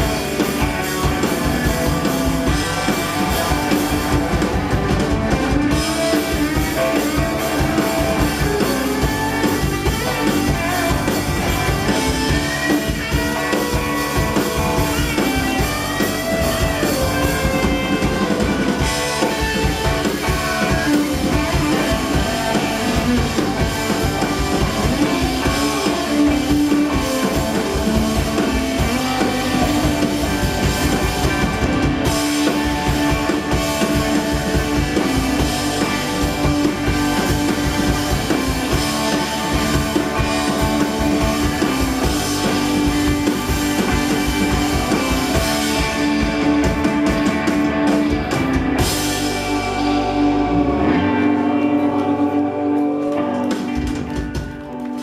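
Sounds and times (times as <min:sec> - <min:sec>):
drum kit: 0:00.0 - 0:55.0
guitar: 0:00.0 - 0:55.0
live rock band playing: 0:00.0 - 0:55.0.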